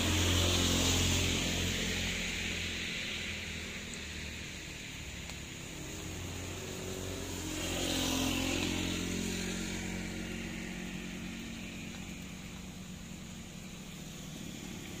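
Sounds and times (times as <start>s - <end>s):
vehicle driving past: 0.0s - 15.0s.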